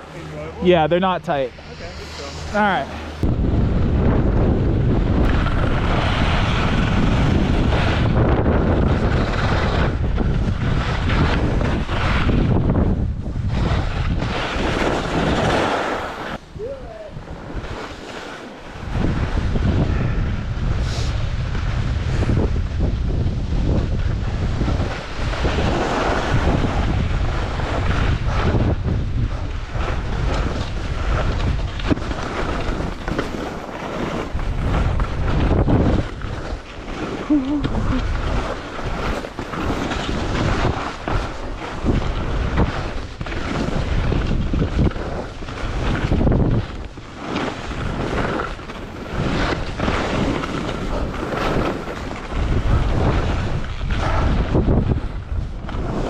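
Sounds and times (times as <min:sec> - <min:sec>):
wind rushing over microphone: 0:00.0 - 0:56.0
skis scraping on snow: 0:00.1 - 0:16.4, 0:17.3 - 0:20.0, 0:20.6 - 0:56.0.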